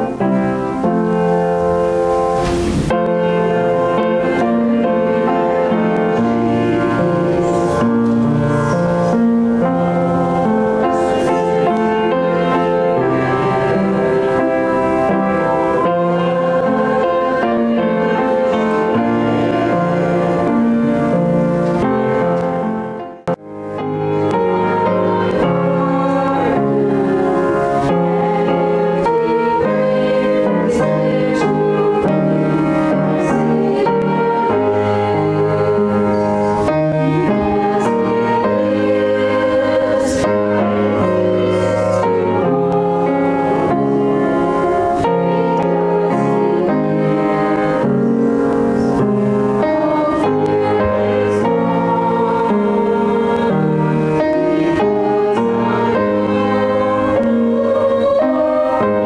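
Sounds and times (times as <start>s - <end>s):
instrumental accompaniment: 0.0s - 59.0s
women singing a hymn: 0.0s - 59.0s.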